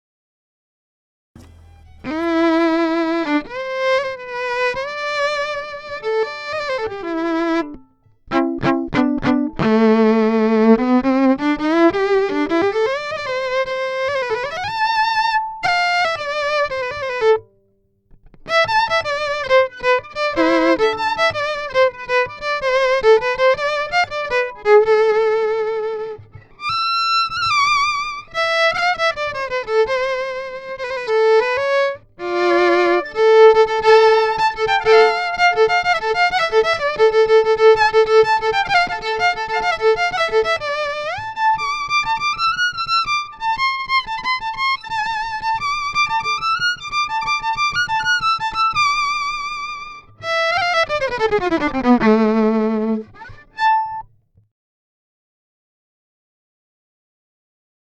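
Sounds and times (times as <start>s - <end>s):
bowed violin melody with vibrato: 1.4s - 17.6s, 18.4s - 54.1s.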